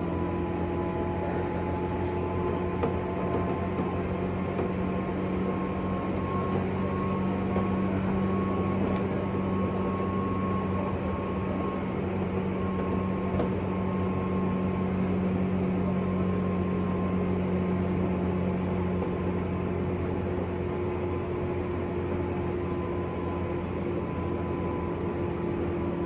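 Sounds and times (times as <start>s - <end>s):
train wheels rumbling on rail: 0.0s - 22.1s.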